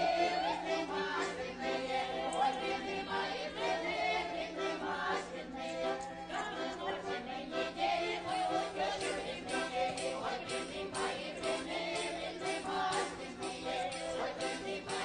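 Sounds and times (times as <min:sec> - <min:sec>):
background music with choir singing: 0:00.0 - 0:15.0.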